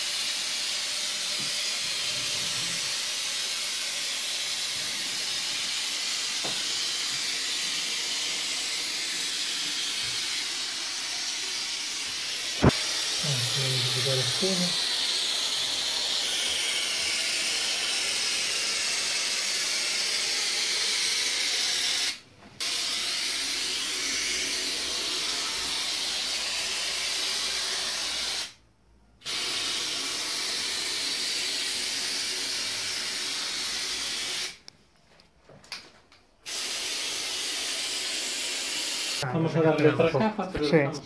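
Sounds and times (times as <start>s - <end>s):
spray paint can hissing: 0.0s - 28.6s, 29.2s - 34.6s, 36.4s - 39.3s.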